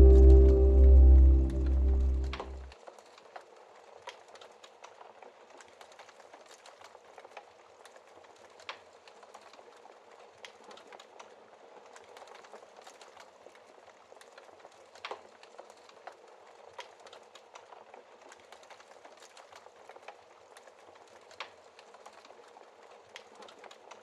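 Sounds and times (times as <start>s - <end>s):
wood fire crackling: 4.0s - 24.0s.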